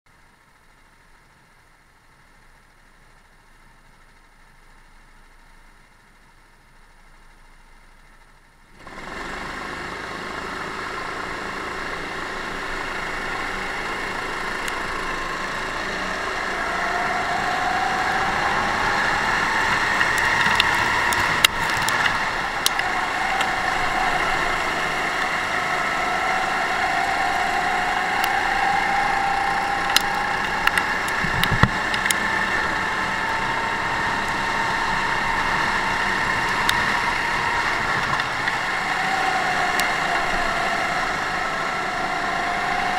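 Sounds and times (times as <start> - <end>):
other karts' engines: 0.1 - 42.9
kart engine at full throttle: 8.3 - 42.9.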